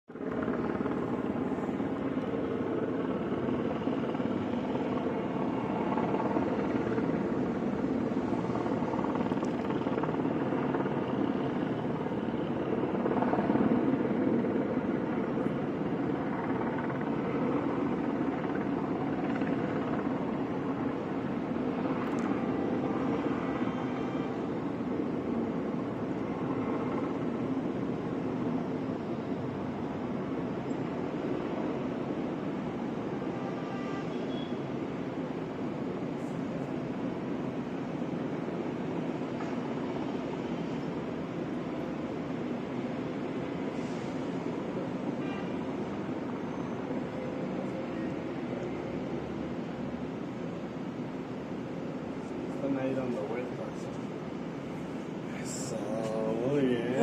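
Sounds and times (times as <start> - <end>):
helicopter rotor drone: 0.1 - 57.0.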